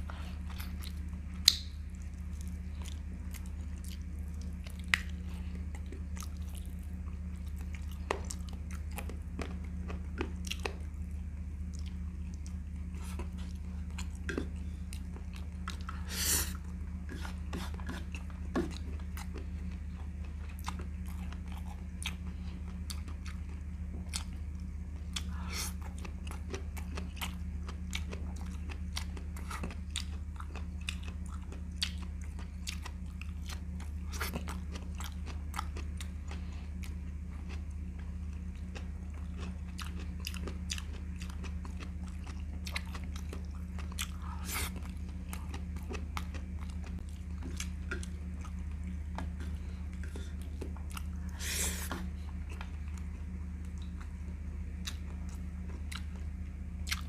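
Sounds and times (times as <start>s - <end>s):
low hum: 0.0s - 57.0s
person chewing and biting: 0.1s - 57.0s.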